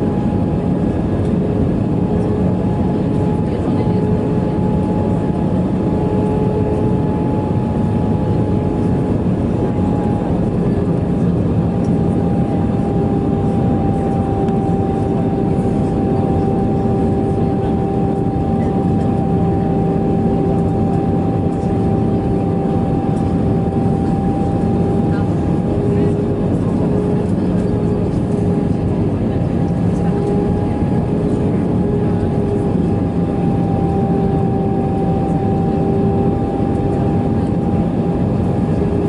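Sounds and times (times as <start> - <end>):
airplane cabin engine noise: 0.0 - 39.0.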